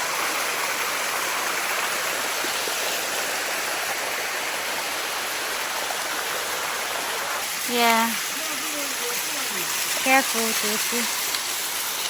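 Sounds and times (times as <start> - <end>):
waterfall cascading over rock: 0.0 - 12.0.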